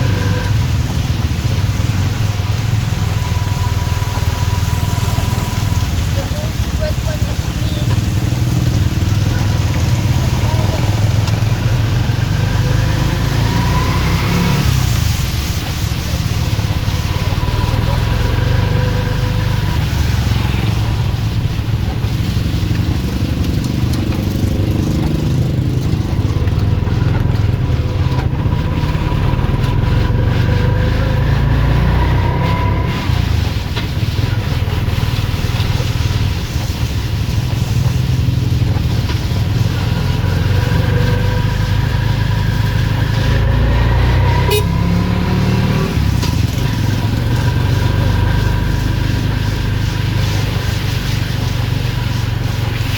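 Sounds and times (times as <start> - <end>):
vehicle engines rumbling: 0.0 - 52.9.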